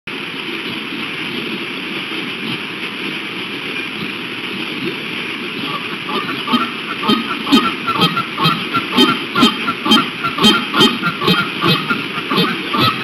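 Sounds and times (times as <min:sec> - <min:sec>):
rushing outdoor background noise: 0:00.1 - 0:13.0.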